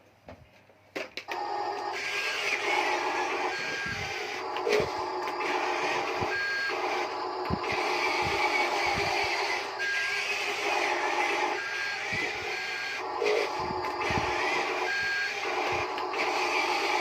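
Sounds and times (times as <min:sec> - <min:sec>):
electric motor and gear whirr: 0:01.3 - 0:17.0.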